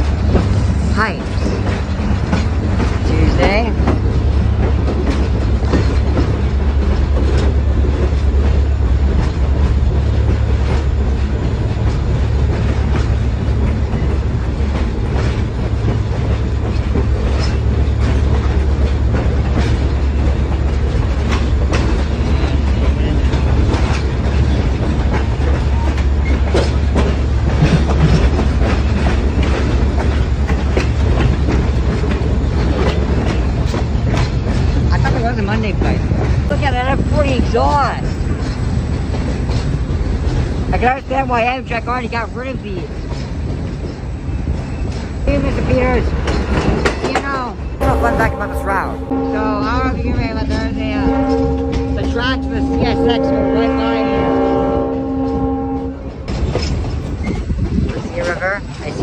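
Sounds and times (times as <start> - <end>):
wheels clicking over rail joints: 0.0 - 47.8
train rumbling: 0.0 - 59.0.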